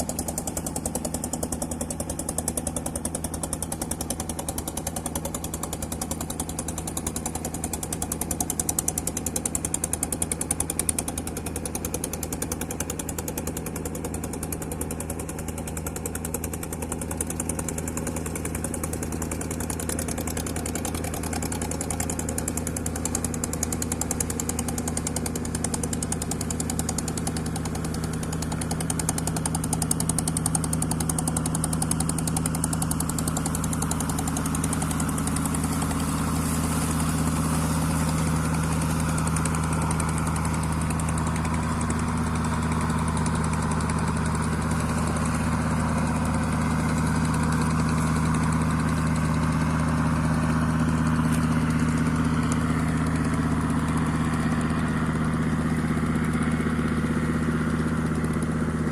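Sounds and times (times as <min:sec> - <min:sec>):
boat engine chugging: 0:00.0 - 0:58.9.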